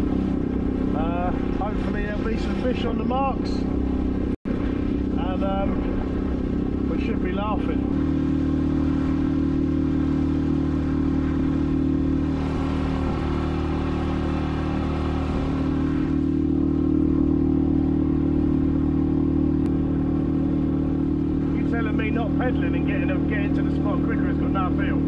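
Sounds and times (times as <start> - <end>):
outboard motor running: 0.0 - 25.0
water rushing past hull: 0.0 - 25.0.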